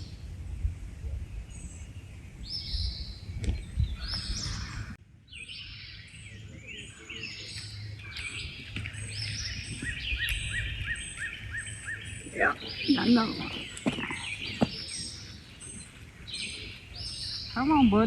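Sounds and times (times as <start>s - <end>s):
songbird singing: 0.0s - 18.0s.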